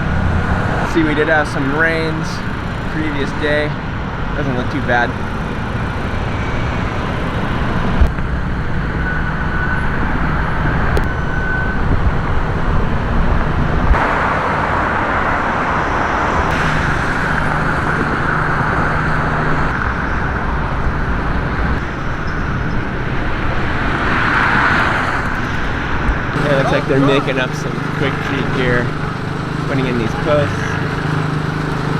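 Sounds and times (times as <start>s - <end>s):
road traffic rumble: 0.0s - 31.9s.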